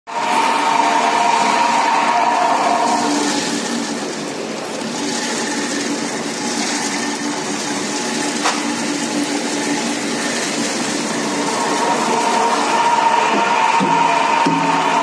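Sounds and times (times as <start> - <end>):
washing machine motor hum: 0.1 - 15.0
raisins pouring into steel hopper: 0.2 - 15.0.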